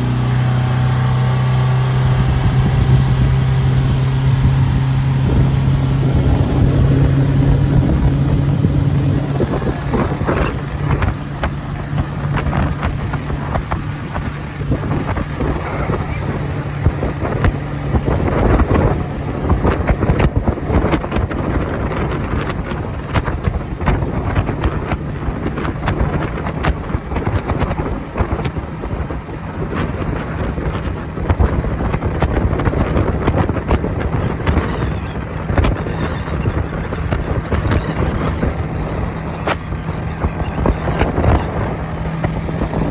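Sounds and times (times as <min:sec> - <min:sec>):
boat engine humming: 0:00.0 - 0:42.9
rushing wind: 0:00.0 - 0:42.9
water noise: 0:00.0 - 0:42.9
wind buffeting microphone: 0:00.0 - 0:42.9.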